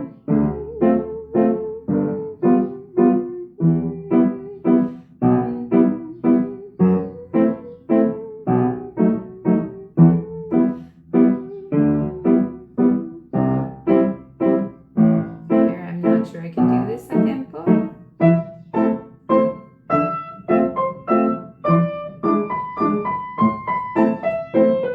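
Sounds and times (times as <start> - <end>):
piano notes and chords: 0.0 - 24.9.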